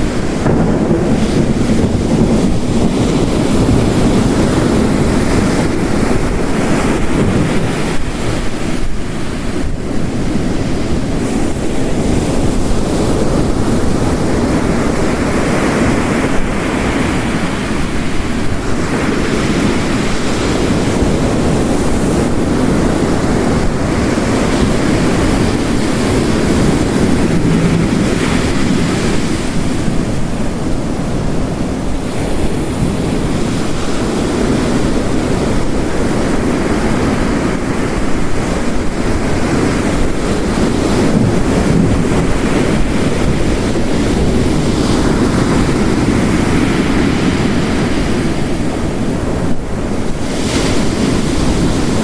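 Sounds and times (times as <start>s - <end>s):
heavy rain: 0.0s - 52.0s
ocean waves crashing on rocks: 0.0s - 52.0s.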